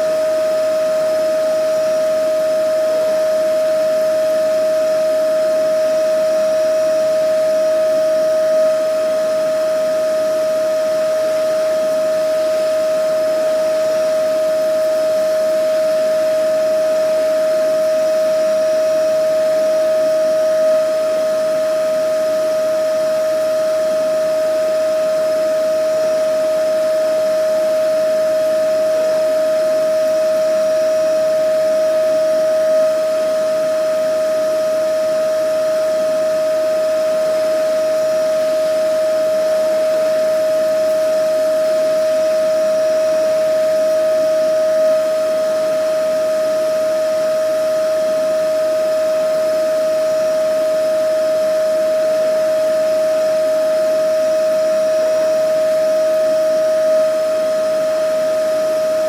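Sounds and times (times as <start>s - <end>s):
vacuum cleaner running: 4.6s - 59.0s.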